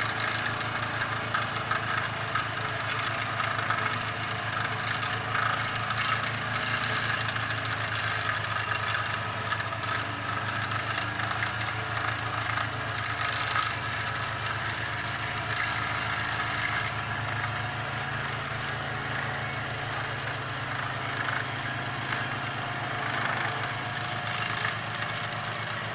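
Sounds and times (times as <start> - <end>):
metallic rattle: 0.0 - 25.9
pile driver pulsing hum: 0.0 - 25.9.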